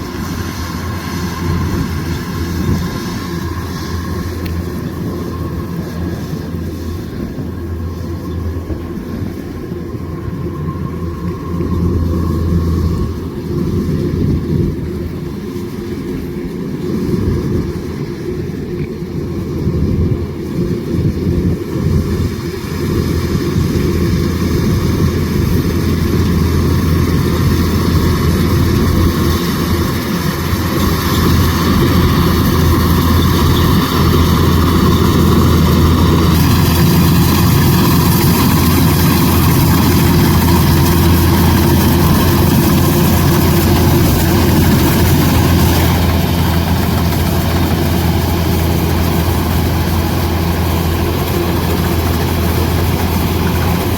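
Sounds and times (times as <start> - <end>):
combine harvester diesel engine drone: 0.0 - 53.9.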